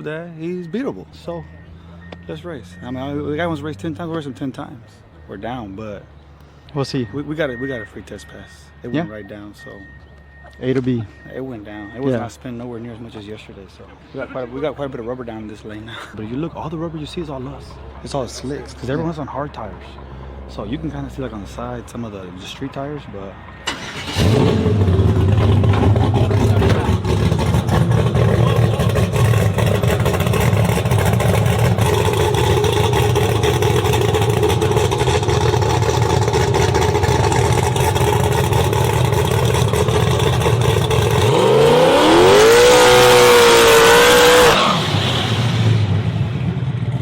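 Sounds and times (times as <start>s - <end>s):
truck engine rumbling and accelerating: 0.0s - 47.0s.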